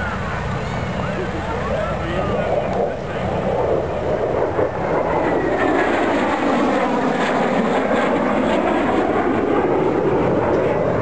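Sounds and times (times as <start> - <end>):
faint gliding whine: 0.0 - 11.0
jet flying past: 0.0 - 11.0.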